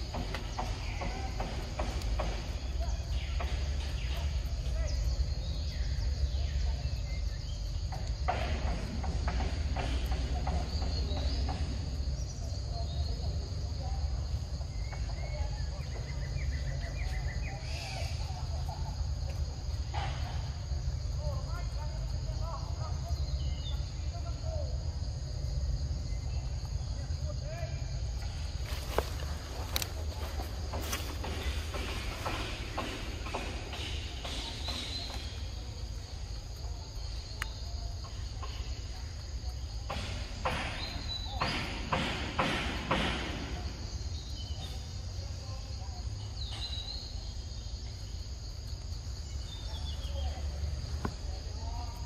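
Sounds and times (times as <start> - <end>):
bird chirping: 0.0 - 24.8, 25.7 - 42.0, 43.5 - 52.0
high insect drone: 0.0 - 52.0.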